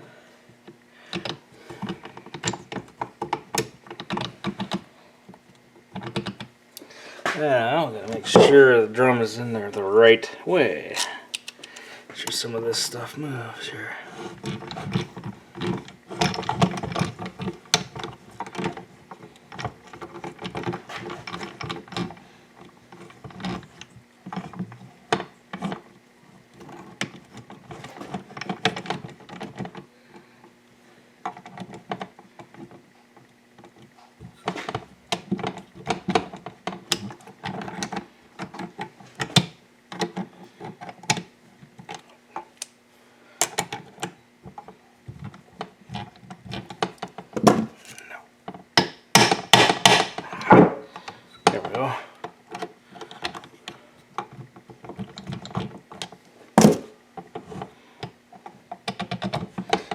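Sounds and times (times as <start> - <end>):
faint hum: 0.0 - 48.6.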